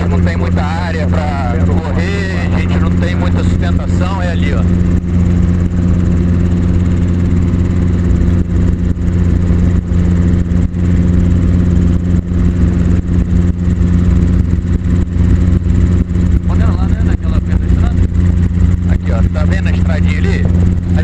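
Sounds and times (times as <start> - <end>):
helicopter engine and rotor drone: 0.0 - 21.0.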